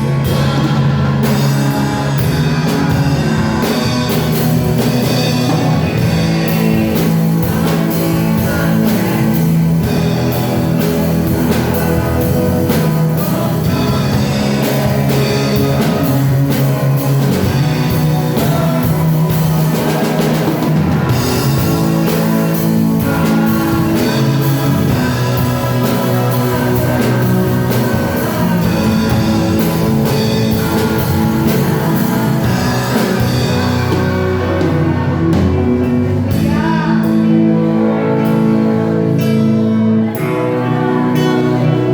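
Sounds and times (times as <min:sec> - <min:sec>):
drum kit steady beat: 0:00.0 - 0:38.8
guitars: 0:00.0 - 0:41.9
sustained bass notes: 0:00.0 - 0:41.9
worship band playing: 0:00.0 - 0:41.9.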